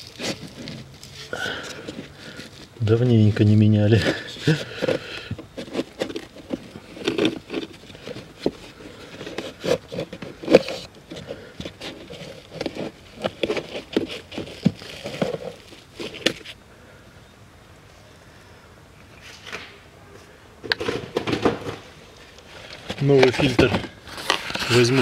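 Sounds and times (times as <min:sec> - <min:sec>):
air filter crinkling against plastic: 0:00.0 - 0:16.6, 0:20.7 - 0:25.0.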